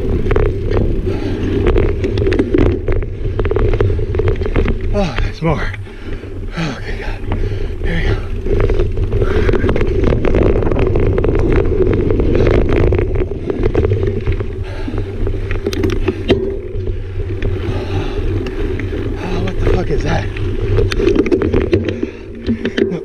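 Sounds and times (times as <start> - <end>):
bike rattling over bumps: 0.0 - 23.0
bike tyres rolling on dirt: 0.0 - 23.0.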